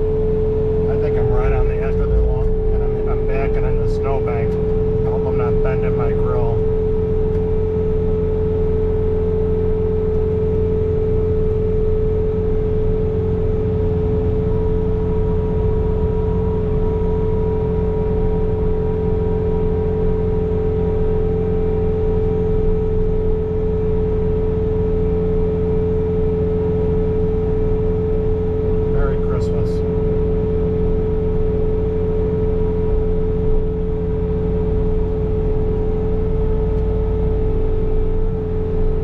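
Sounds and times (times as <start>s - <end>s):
diesel engine drone: 0.0s - 39.0s
snow blower high whine: 0.0s - 39.0s.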